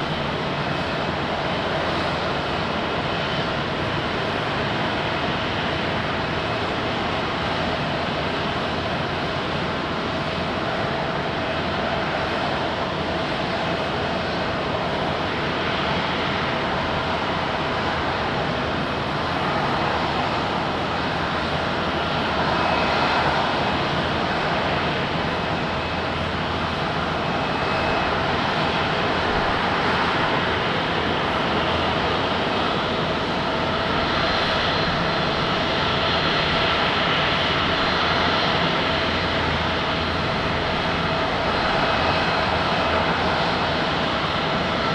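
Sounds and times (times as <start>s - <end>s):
airliner engines running: 0.0s - 44.9s.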